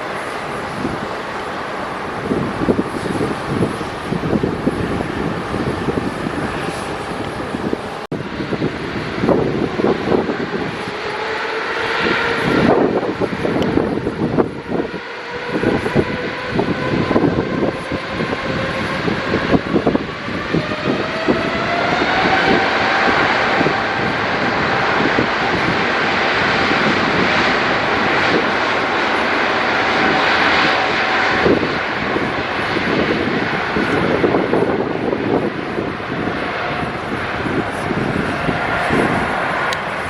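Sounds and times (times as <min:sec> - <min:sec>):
jet engines whining: 0:00.0 - 0:40.0
loud rushing noise: 0:00.0 - 0:40.0
wind rumble on microphone: 0:00.0 - 0:40.0.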